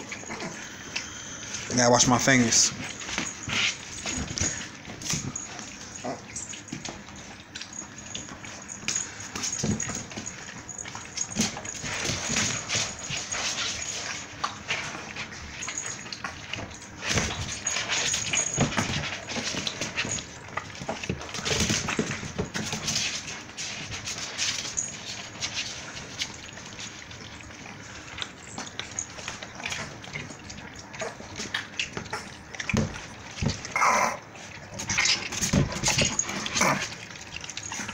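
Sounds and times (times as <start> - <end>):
puppies chewing: 0.0 - 37.9
puppies scrabbling in plastic tub: 0.0 - 37.9.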